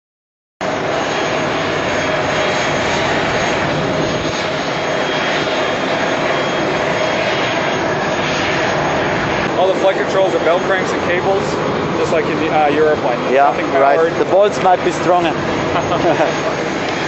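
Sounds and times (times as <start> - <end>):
jet engine running: 0.6 - 17.0.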